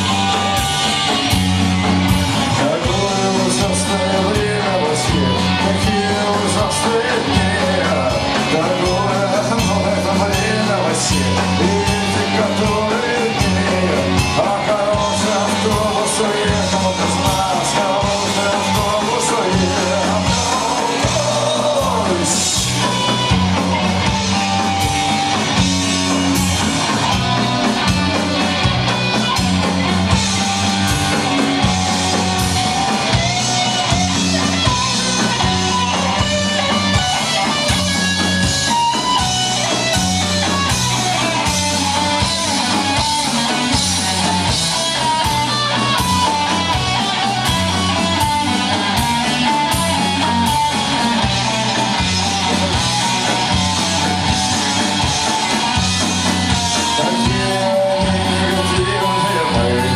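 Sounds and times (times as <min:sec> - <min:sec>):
bass line: 0:00.0 - 0:59.9
drum kit beat with cymbals: 0:00.0 - 0:59.9
electric guitars: 0:00.0 - 0:59.9.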